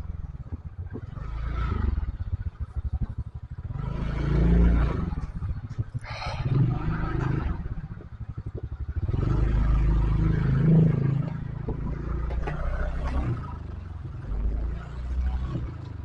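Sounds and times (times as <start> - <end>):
motorcycle engine pulling away: 0.0 - 16.0.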